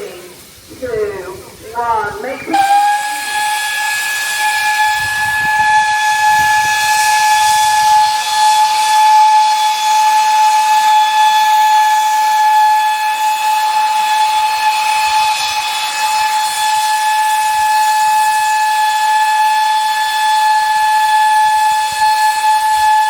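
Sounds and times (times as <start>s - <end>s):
steam hissing: 0.0s - 23.0s
steam whistle blast: 2.3s - 23.0s.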